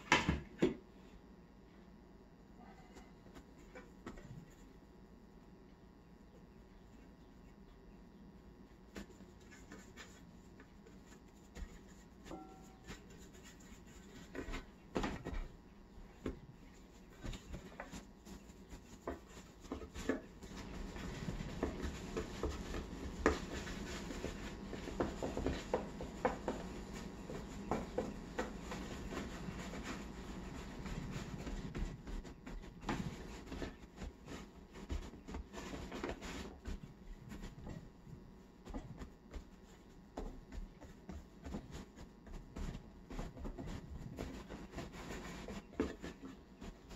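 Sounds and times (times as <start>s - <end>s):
hands rubbing and patting dough: 2.6s - 46.9s.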